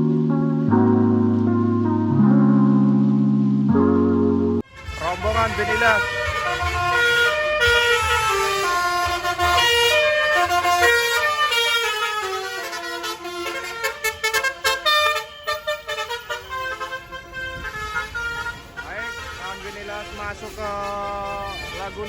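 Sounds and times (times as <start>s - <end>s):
multi-tone musical bus horn: 3.8s - 22.0s.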